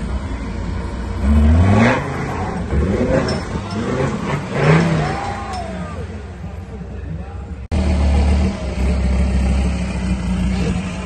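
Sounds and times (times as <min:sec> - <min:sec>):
off-road vehicle engine revving: 0:00.9 - 0:06.7, 0:07.6 - 0:11.0.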